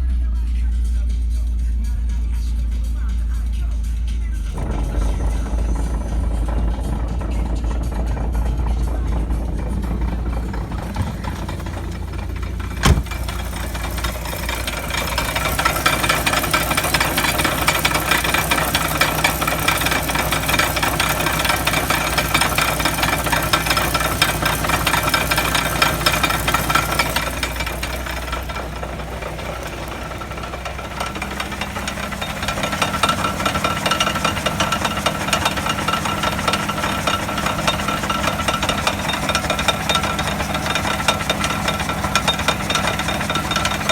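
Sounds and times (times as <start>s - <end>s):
bearing grinding crackle: 4.6s - 43.9s.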